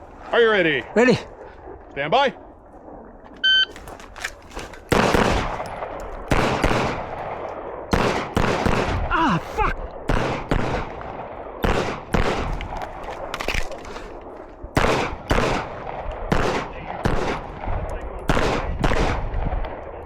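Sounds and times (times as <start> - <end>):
gunshots: 3.7 - 19.8.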